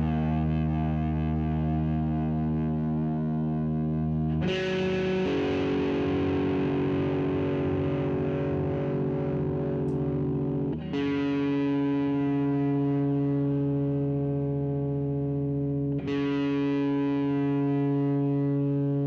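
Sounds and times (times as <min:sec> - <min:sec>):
distorted electric guitar chords: 0:00.0 - 0:19.0.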